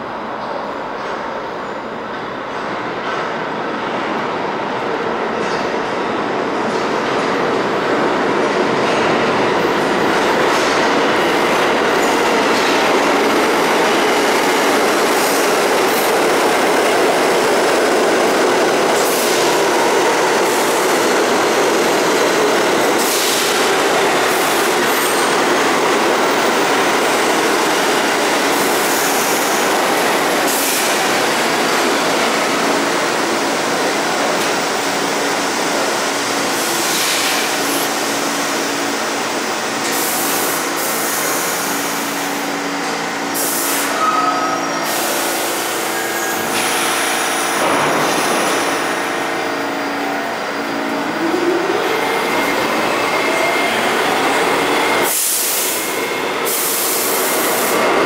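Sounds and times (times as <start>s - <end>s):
steel wheels rumbling on rail: 0.5s - 58.0s.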